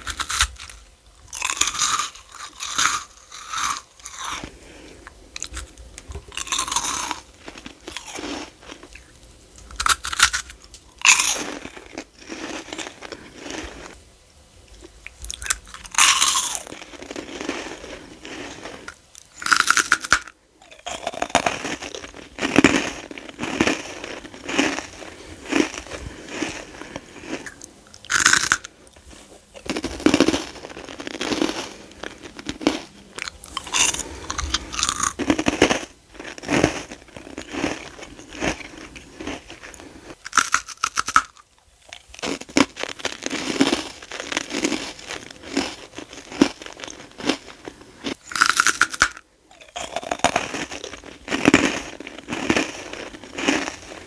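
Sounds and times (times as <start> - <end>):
crunching and chewing candy: 0.0 - 14.0, 14.6 - 54.0.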